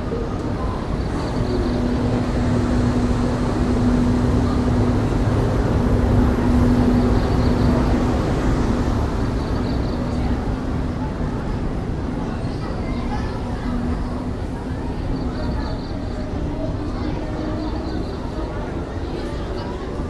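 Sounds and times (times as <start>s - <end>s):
locomotive hum: 0.0s - 20.0s
train rumbling past: 0.0s - 20.0s.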